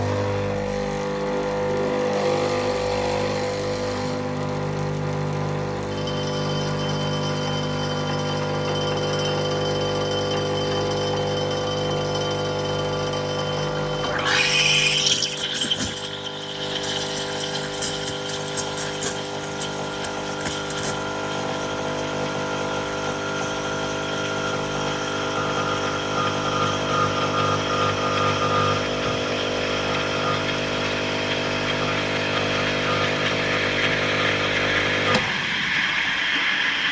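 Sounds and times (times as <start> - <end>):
espresso machine pump humming: 0.0 - 36.9.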